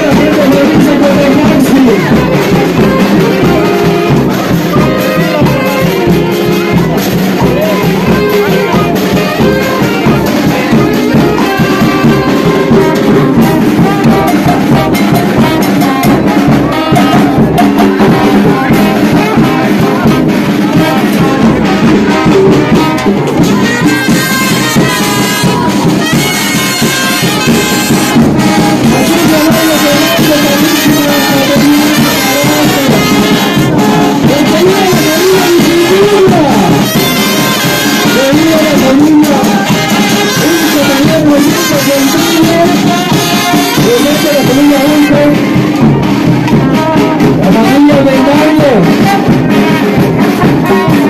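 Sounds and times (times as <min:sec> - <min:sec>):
live band playing dance music: 0:00.0 - 0:51.0.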